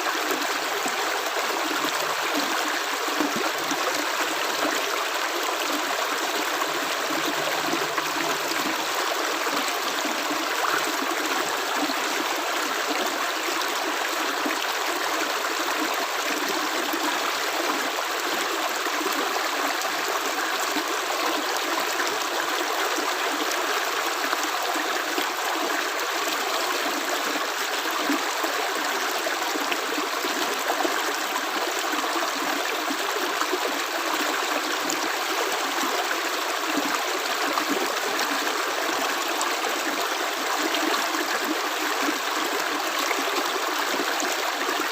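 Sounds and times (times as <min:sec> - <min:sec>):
water flowing in a stream: 0:00.0 - 0:44.9.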